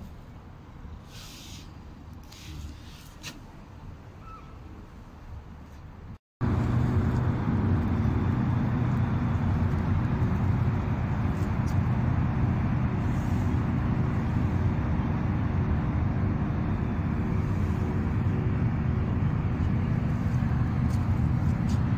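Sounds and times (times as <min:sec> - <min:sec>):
low traffic rumble: 0:00.0 - 0:21.9.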